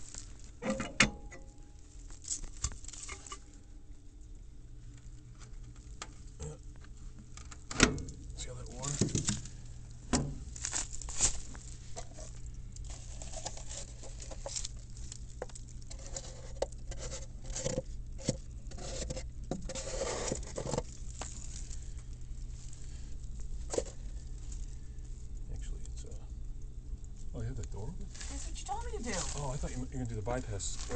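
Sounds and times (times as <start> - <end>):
coals crackling and ticking: 0.0 - 0.6, 1.2 - 30.9
steady low hum: 0.0 - 30.9.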